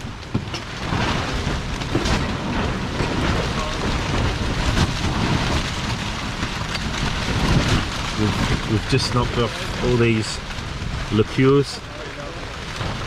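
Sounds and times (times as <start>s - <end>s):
gusting wind: 0.0s - 13.0s
heavy rain on a tarp: 0.0s - 13.0s
low rumble: 0.0s - 13.0s.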